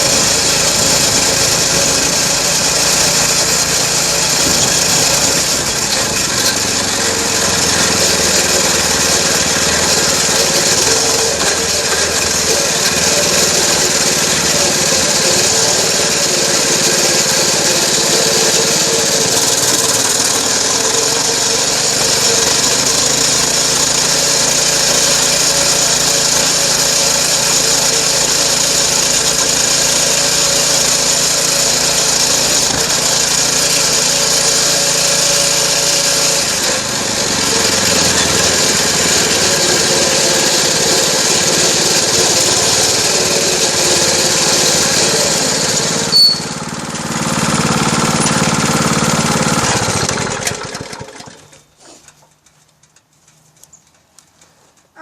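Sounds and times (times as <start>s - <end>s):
dirt bike engine running: 0.0s - 51.7s.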